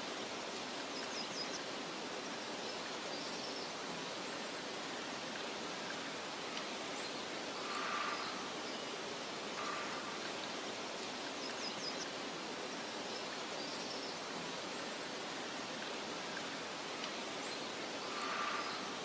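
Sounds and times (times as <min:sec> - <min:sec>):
meadow ambience hiss: 0:00.0 - 0:19.0.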